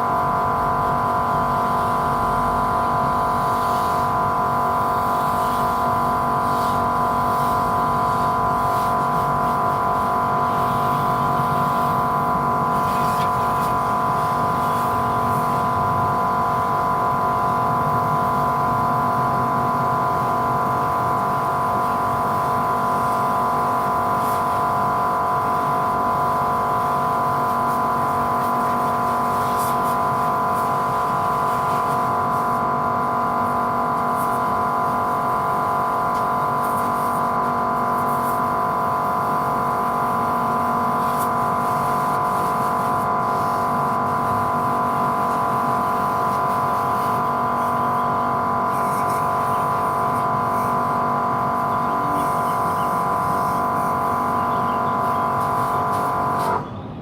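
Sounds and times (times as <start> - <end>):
machine droning: 0.0 - 57.0.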